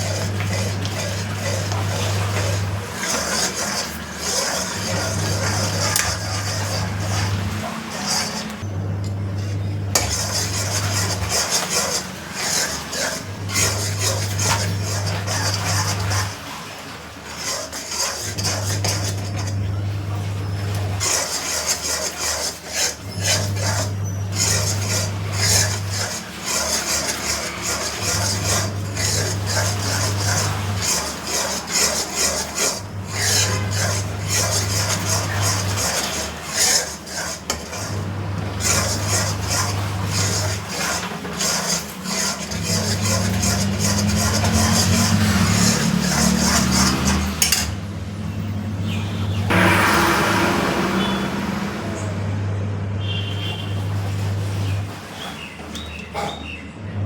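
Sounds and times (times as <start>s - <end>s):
utensil scraping halwa in pan: 0.0s - 47.8s, 48.9s - 51.4s.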